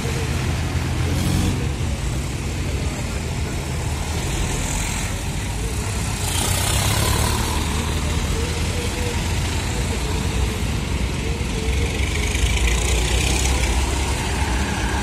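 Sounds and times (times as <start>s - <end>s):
tractor diesel engines rumbling: 0.0s - 15.0s.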